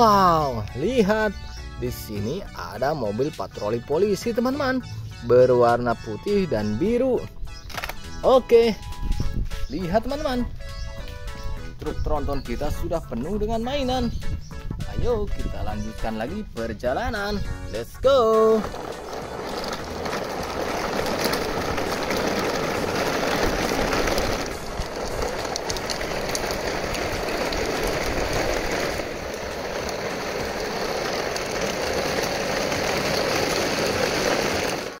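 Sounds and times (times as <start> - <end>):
plastic wheels rolling on concrete: 0.0 - 35.0.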